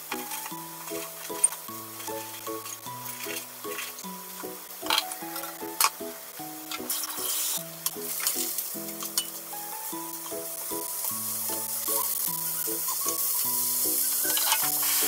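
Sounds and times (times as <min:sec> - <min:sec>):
fish sizzling in frying pan: 0:00.0 - 0:15.0
light background music: 0:00.0 - 0:15.0
tongs clicking: 0:00.1 - 0:06.0, 0:06.6 - 0:09.5, 0:10.1 - 0:15.0.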